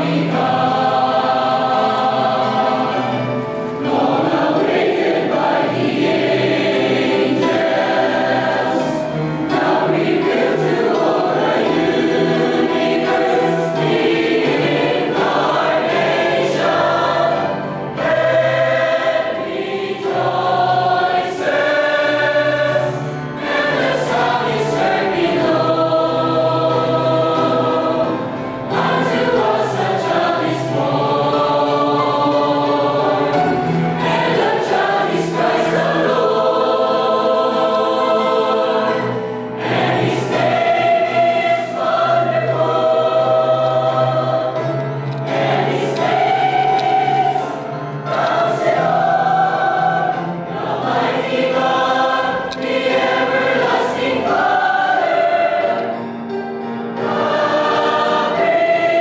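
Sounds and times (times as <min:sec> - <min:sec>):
mixed choir singing in harmony: 0:00.0 - 0:59.0.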